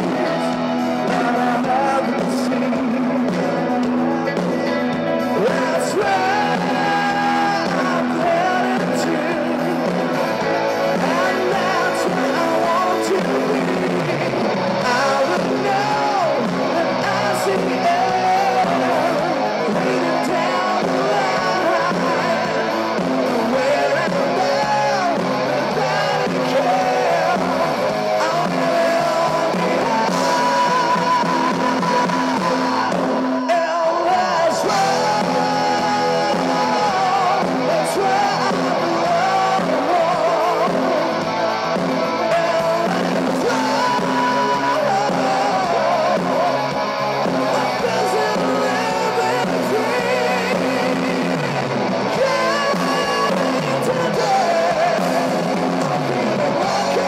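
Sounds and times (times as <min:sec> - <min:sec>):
live hard rock band with singing: 0:00.0 - 0:57.0.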